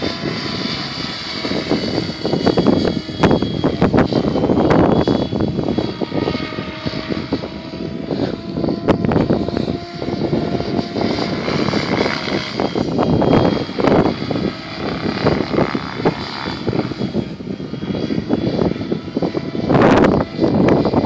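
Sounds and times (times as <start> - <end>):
rc helicopter whine: 0.0 - 21.0
wind gusts on microphone: 0.0 - 21.0.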